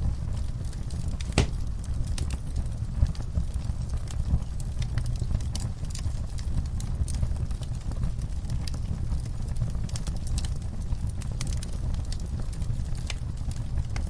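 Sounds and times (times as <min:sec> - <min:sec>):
fire crackling and popping: 0:00.0 - 0:14.0
fire flames rumbling: 0:00.0 - 0:14.0.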